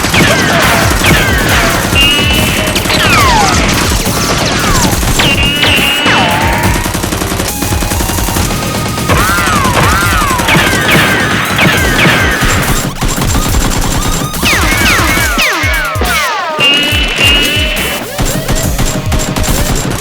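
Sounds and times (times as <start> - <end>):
background music: 0.0 - 20.0
rapid gunfire: 0.0 - 20.0.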